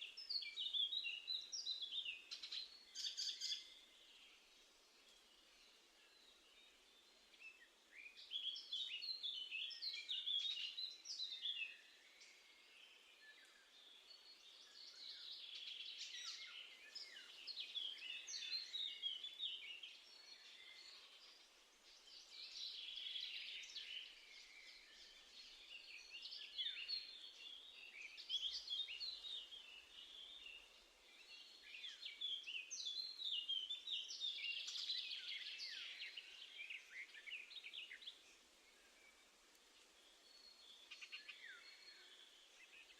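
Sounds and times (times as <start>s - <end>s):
songbird twittering: 0.0s - 39.3s, 40.0s - 42.9s.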